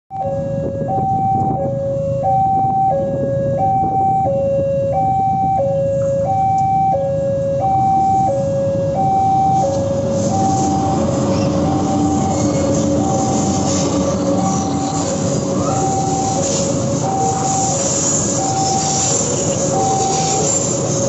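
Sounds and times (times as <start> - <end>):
diesel locomotive arriving: 0.1 - 21.0
two-tone crossing alarm: 0.1 - 21.0.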